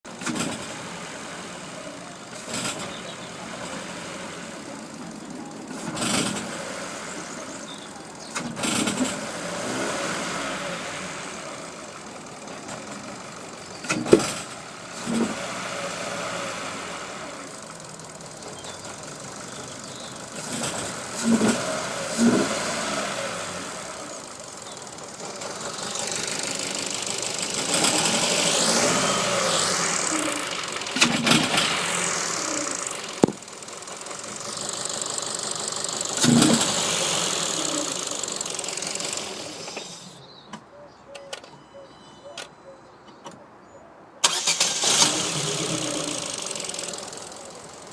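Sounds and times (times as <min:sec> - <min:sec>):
car engine revving: 0:00.0 - 0:40.2, 0:44.2 - 0:47.9.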